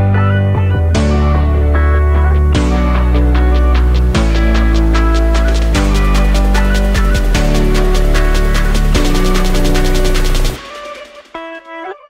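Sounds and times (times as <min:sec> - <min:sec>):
electronic music with heavy bass: 0:00.0 - 0:11.7.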